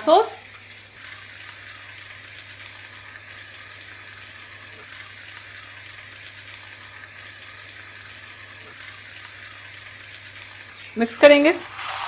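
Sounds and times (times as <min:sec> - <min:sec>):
food sizzling in a frying pan: 0:01.0 - 0:12.0.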